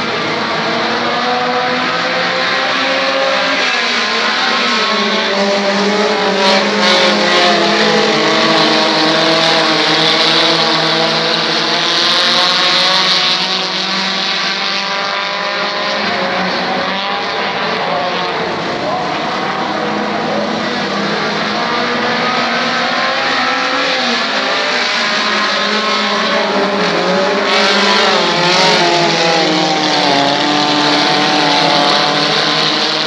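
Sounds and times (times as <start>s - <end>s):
race car engines passing: 0.0s - 33.0s.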